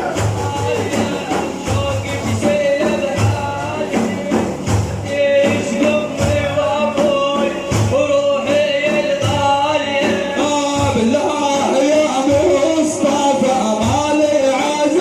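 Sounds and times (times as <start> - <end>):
frame drums: 0.0 - 15.0
man singing: 0.0 - 15.0.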